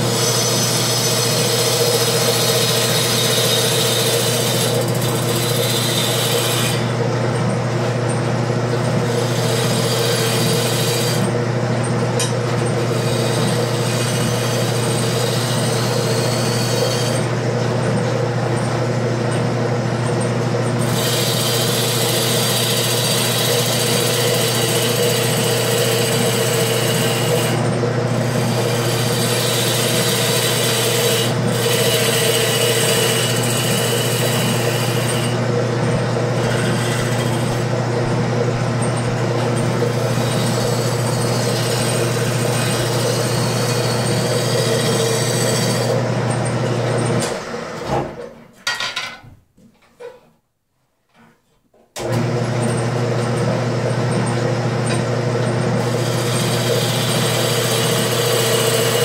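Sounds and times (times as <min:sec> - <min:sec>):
lathe tool scraping wood: 0:00.0 - 0:17.8, 0:20.8 - 0:48.0, 0:54.8 - 0:59.0
lathe motor humming: 0:00.0 - 0:47.8, 0:52.0 - 0:59.0.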